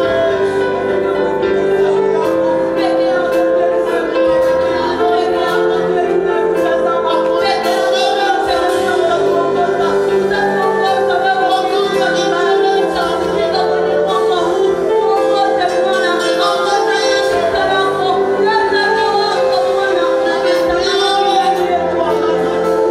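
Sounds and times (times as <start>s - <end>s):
choir singing worship music: 0.0s - 22.9s
sustained keyboard chords: 0.0s - 22.9s.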